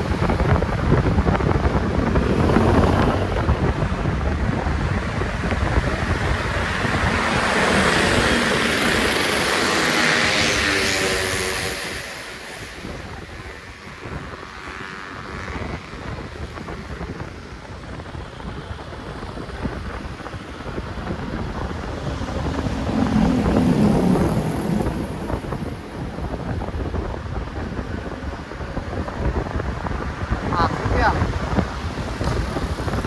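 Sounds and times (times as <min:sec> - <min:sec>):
traffic engine and road noise: 0:00.0 - 0:33.0
wind buffeting microphone: 0:00.0 - 0:33.0.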